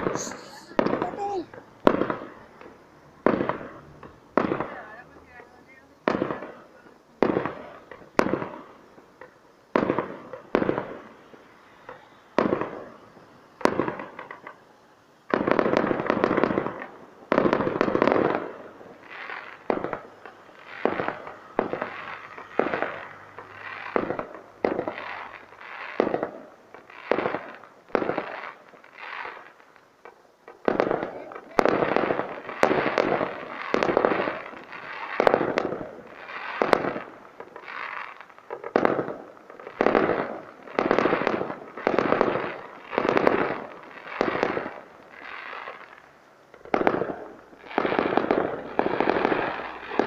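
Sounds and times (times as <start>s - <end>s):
fireworks exploding: 0.0s - 50.0s.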